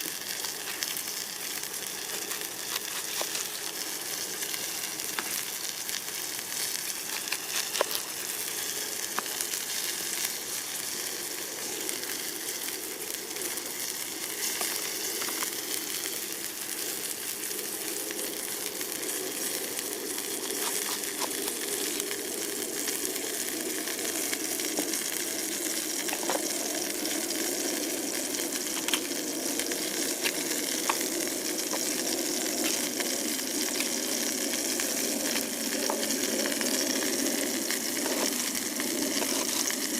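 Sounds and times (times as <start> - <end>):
steak sizzling in a pan: 0.0 - 39.9
fire pops and crackles: 0.1 - 39.9.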